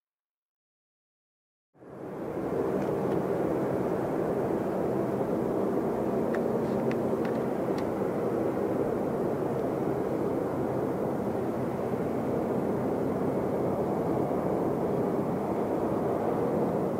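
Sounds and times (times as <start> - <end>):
airliner jet engines running: 1.8 - 16.9
faint steady hum: 1.8 - 16.9.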